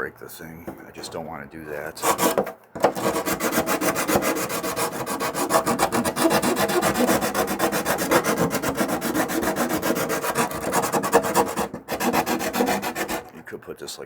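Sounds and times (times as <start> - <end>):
sanding drum rasping plastic: 1.9 - 13.4.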